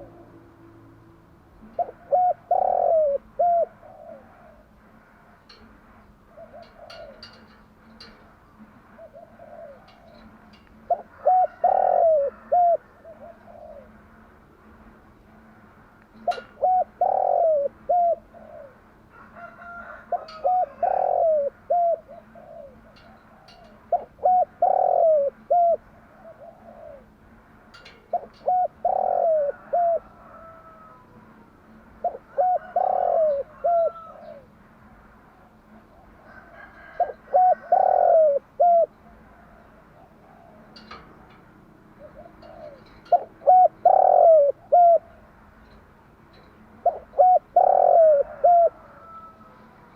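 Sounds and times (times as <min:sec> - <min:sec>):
dove cooing: 0:00.0 - 0:05.6, 0:06.2 - 0:14.2, 0:16.2 - 0:34.6, 0:35.3 - 0:45.4, 0:46.8 - 0:49.9.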